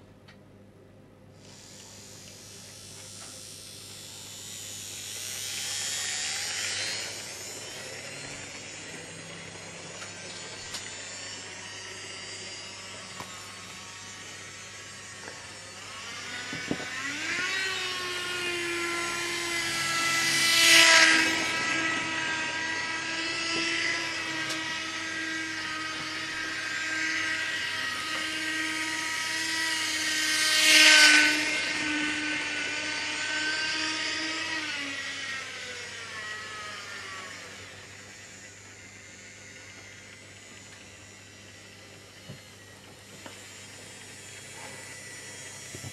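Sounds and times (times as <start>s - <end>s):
model train motor whining: 1.4s - 45.9s.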